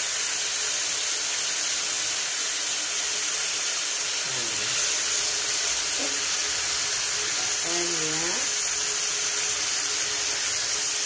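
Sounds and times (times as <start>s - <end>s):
chicken sizzling in a grill pan: 0.0s - 11.0s.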